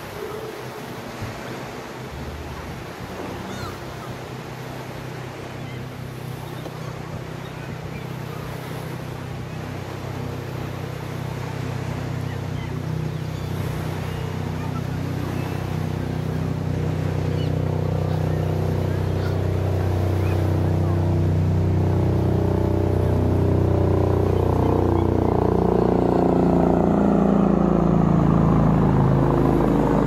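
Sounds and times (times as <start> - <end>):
engine low hum: 0.0 - 30.0
surf washing: 0.0 - 30.0
wind: 0.0 - 30.0.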